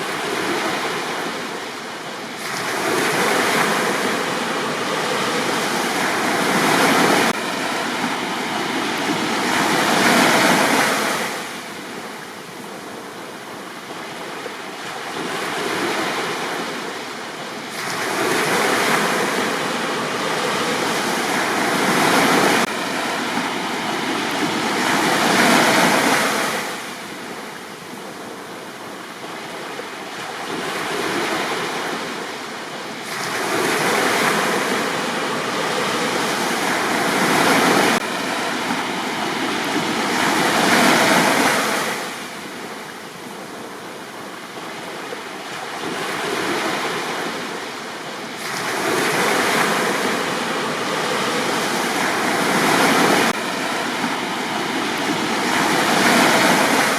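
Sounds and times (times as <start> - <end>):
sea waves washing onto beach: 0.0 - 56.9.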